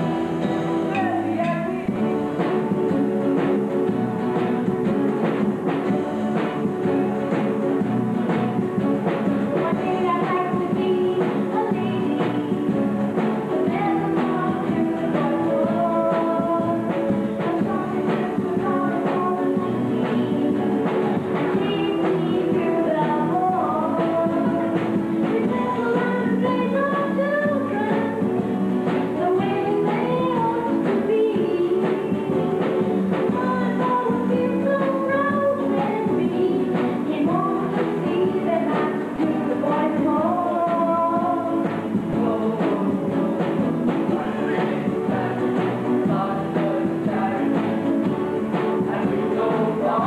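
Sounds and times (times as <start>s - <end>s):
backing music with steady beat: 0.0s - 50.0s
girl singing into microphone: 9.2s - 50.0s.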